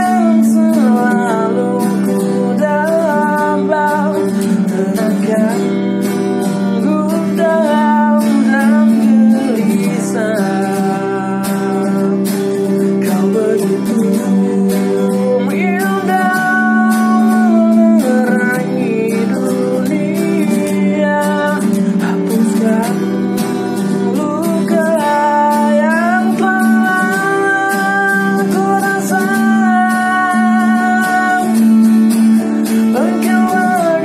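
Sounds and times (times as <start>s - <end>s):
guitar playing: 0.0s - 34.0s
sliding held melody notes: 0.0s - 34.0s.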